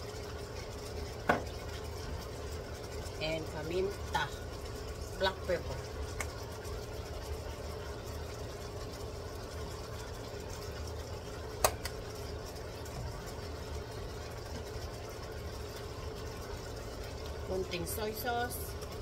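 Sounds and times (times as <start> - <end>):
constant low hum: 0.0 - 19.0
food sizzling in a wok: 0.0 - 19.0.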